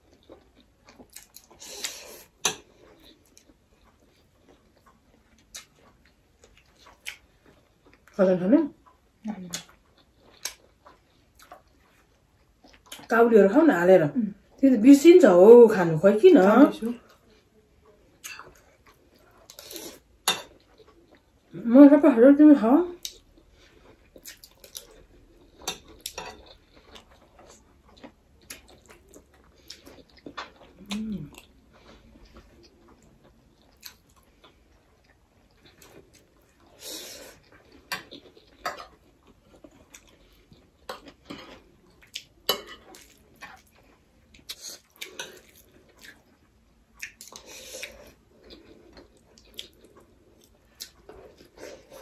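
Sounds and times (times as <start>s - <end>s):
chewing: 0.0s - 13.1s, 16.9s - 21.6s, 23.0s - 52.0s.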